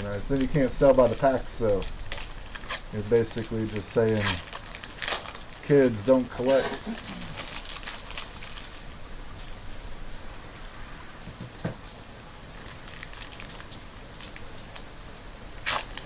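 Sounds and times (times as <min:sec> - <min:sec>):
rain falling hiss: 0:00.0 - 0:16.0.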